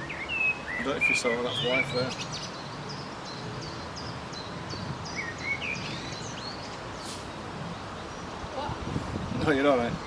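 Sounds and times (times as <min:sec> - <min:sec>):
outdoor background noise: 0:00.0 - 0:10.0
songbird chirping: 0:00.0 - 0:10.0.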